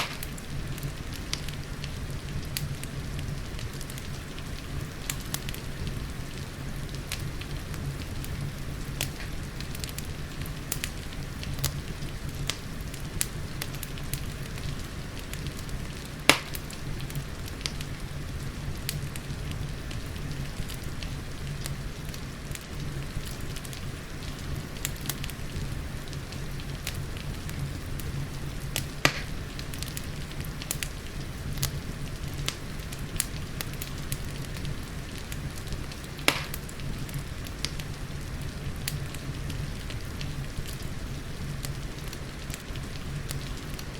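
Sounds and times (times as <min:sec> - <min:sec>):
sharp fire pops: 0:00.0 - 0:43.9
steady hiss and low rumble: 0:00.0 - 0:43.9
wood fire crackling: 0:00.0 - 0:43.9.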